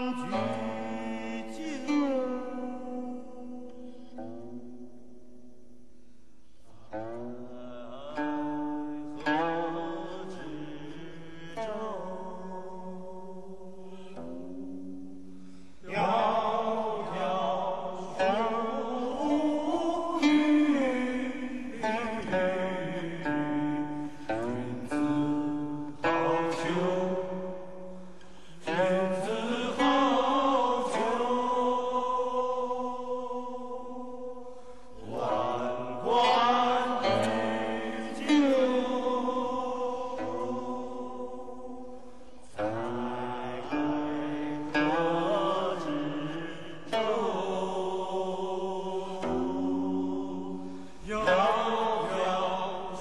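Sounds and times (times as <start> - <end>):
plucked string instrument: 0.0 - 53.0.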